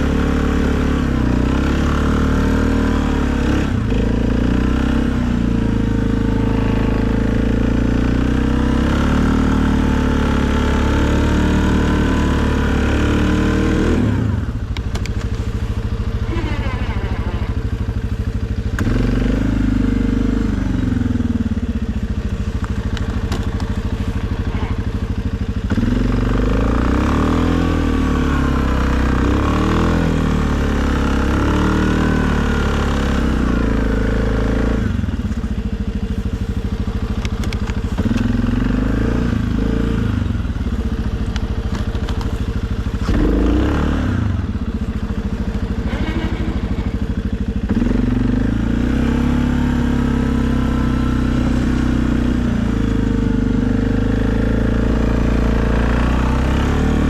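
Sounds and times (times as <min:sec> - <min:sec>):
atv engine revving and idling: 0:00.0 - 0:57.0.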